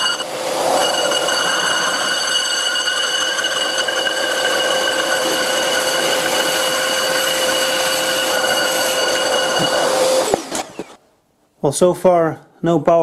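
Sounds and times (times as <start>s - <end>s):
lathe cutting metal with ringing tone: 0.0s - 11.0s.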